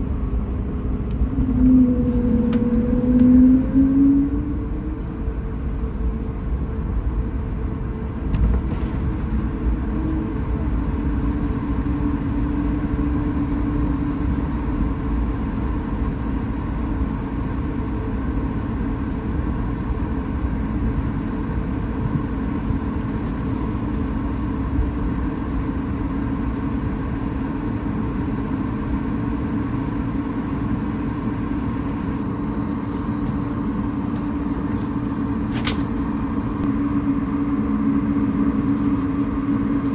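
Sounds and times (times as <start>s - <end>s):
aircraft cabin engine rumble: 0.0s - 39.9s
constant hum tones: 0.0s - 39.9s.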